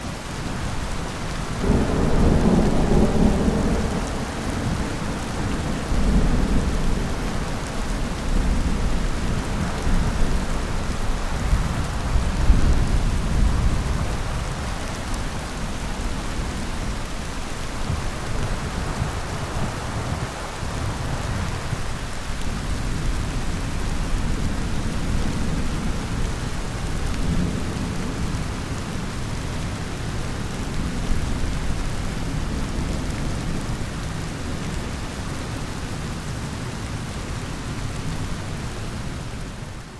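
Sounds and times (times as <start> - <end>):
rain hissing: 0.0 - 39.9
thunder rumbling: 0.7 - 35.4.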